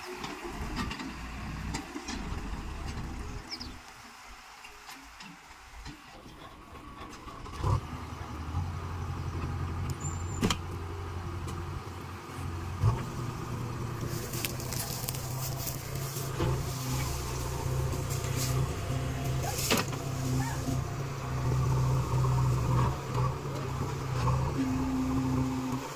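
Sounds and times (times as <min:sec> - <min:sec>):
diesel engine running: 0:00.0 - 0:03.8, 0:06.3 - 0:25.9.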